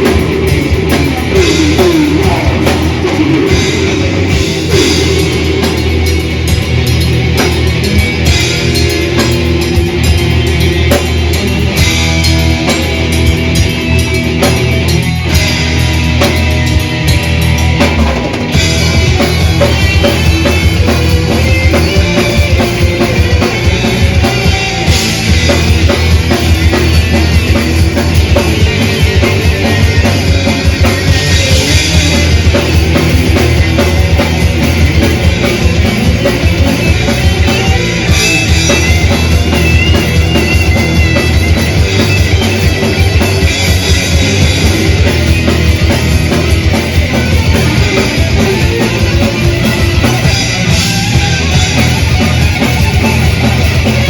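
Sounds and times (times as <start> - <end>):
bass guitar: 0.0 - 54.0
distorted electric guitars: 0.0 - 54.0
fast dense drum beat: 0.0 - 54.0.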